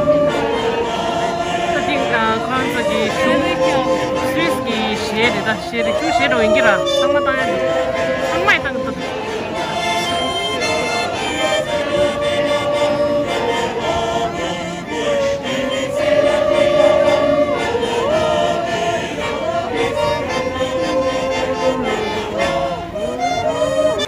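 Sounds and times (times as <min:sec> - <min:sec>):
button accordions playing folk tune: 0:00.0 - 0:24.0
voices singing long held notes: 0:00.0 - 0:24.0.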